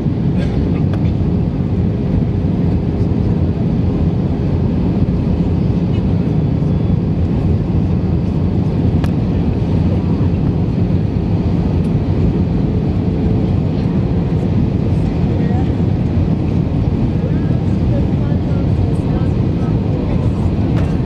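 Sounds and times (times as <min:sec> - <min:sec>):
airplane cabin engine roar: 0:00.0 - 0:21.0.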